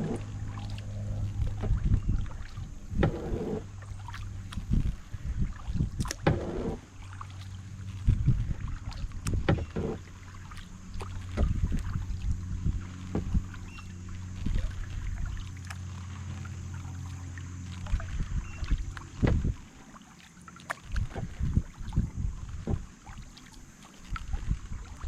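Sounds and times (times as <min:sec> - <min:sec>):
paddle splashing in water: 0:00.0 - 0:25.0
steady low hum: 0:00.0 - 0:25.0.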